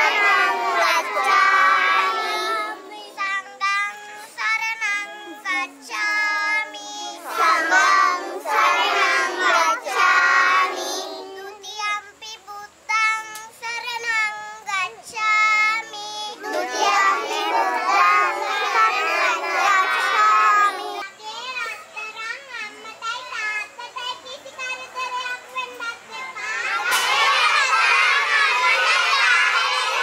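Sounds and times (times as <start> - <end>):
children chanting in unison: 0.0 - 14.5, 15.2 - 21.4, 25.9 - 30.0
single child chanting: 0.0 - 30.0.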